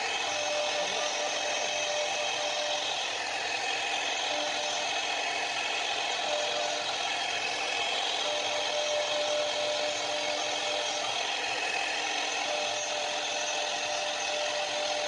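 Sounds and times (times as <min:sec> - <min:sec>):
router cutting wood: 0:00.0 - 0:15.0.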